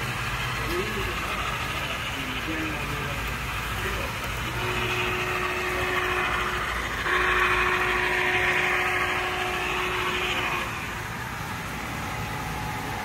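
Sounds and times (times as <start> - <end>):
constant low hum: 0.0 - 13.0
model train motor whirring: 0.0 - 13.0.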